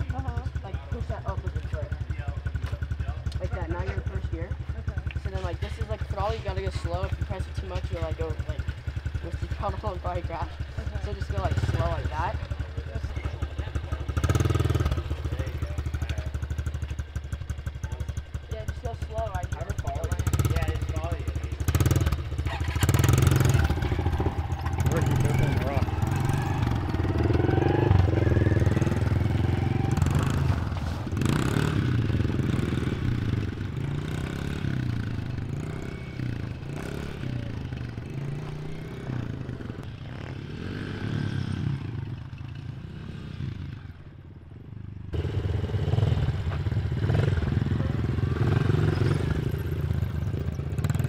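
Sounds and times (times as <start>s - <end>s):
dirt bike engine running: 0.0s - 51.0s.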